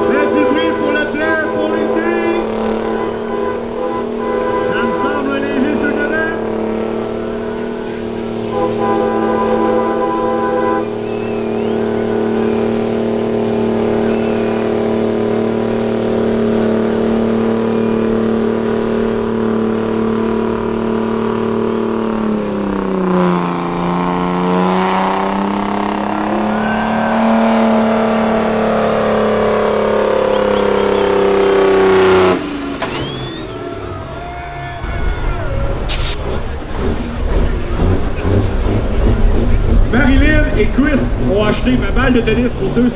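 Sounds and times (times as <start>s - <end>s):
diesel truck engine under load: 0.0s - 42.9s.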